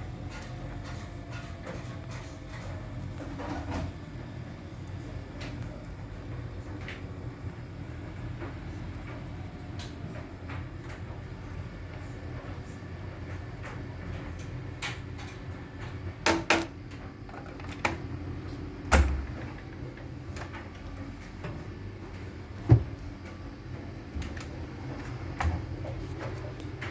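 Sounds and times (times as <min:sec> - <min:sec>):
washing machine clicks and clunks: 0:00.0 - 0:26.9
washing machine humming: 0:00.0 - 0:26.9.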